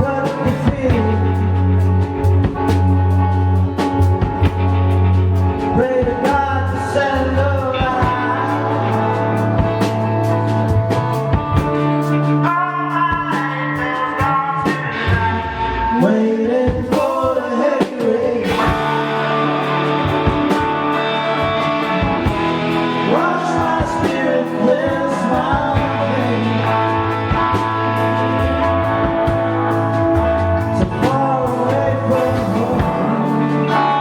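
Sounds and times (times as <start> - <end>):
person singing: 0.0 - 1.8, 5.6 - 9.8, 12.0 - 34.0
guitar chords: 0.0 - 34.0.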